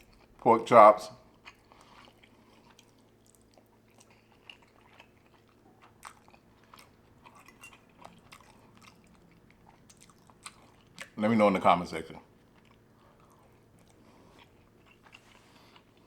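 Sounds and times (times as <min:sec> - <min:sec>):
person chewing: 0:00.0 - 0:00.4, 0:01.3 - 0:11.2, 0:12.3 - 0:16.0.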